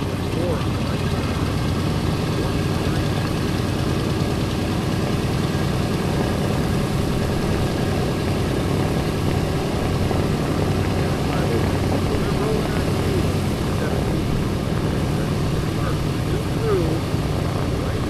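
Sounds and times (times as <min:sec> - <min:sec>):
radial aircraft engines idling: 0:00.0 - 0:18.0.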